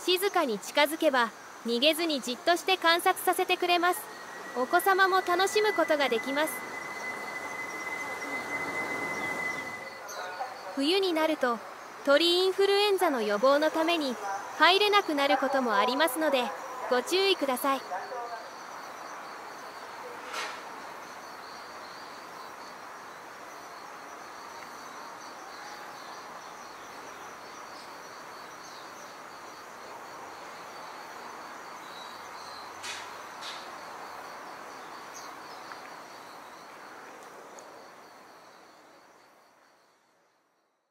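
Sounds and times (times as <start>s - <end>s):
background hiss: 0.0s - 40.9s
high insect drone: 0.0s - 40.9s.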